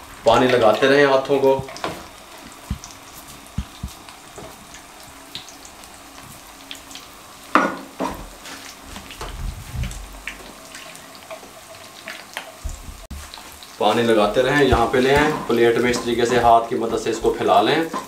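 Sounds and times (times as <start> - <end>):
patty sizzling in oil: 0.0 - 18.0.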